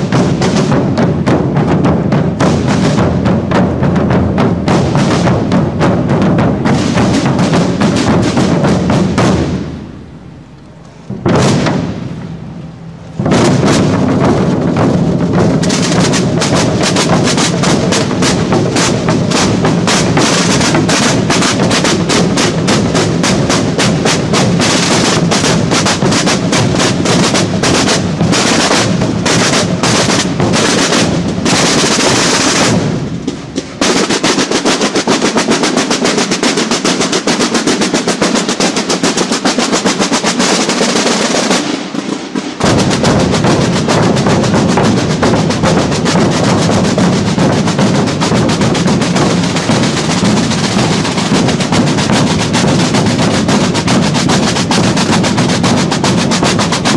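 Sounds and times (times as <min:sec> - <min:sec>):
marching drums playing: 0:00.0 - 0:56.9.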